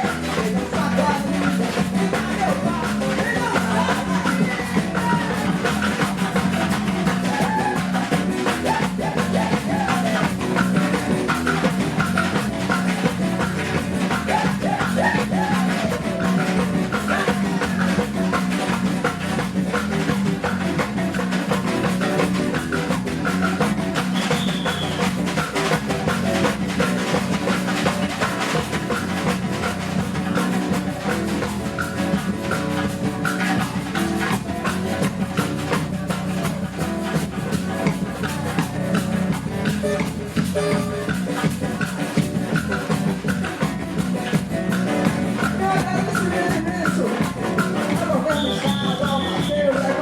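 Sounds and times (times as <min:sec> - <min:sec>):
live band with percussion: 0:00.0 - 0:50.0.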